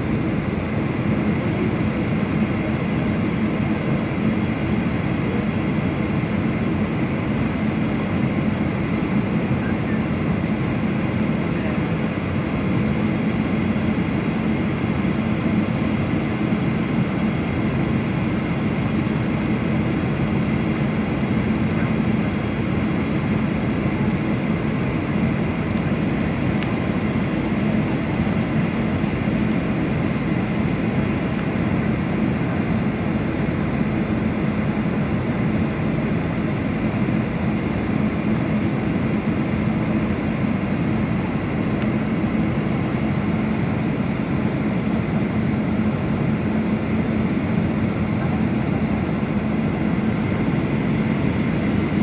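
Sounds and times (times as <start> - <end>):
airliner cabin engine noise: 0.0 - 52.0
faint steady whine: 0.0 - 52.0.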